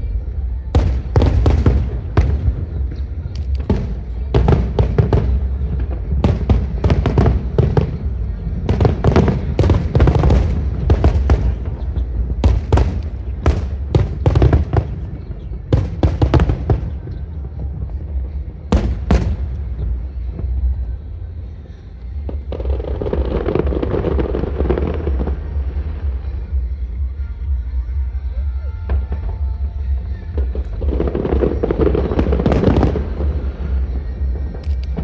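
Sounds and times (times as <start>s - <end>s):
fireworks bursting: 0.0s - 35.0s
music playing: 0.0s - 35.0s.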